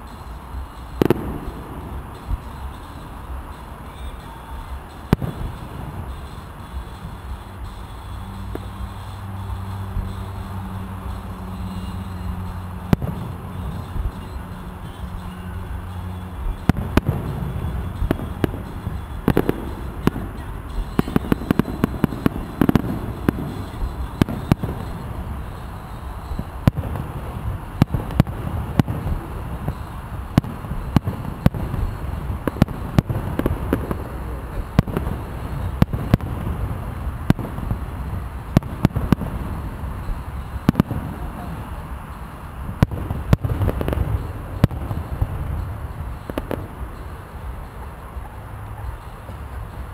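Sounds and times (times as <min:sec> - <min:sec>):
firework shells bursting: 0:00.0 - 0:49.9
steady low rumble: 0:00.0 - 0:49.9.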